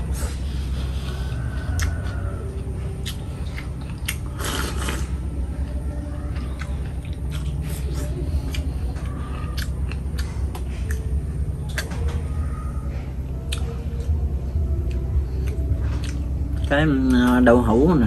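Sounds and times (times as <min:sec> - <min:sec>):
person chewing food: 0:00.0 - 0:17.6
steady low hum: 0:00.0 - 0:18.0.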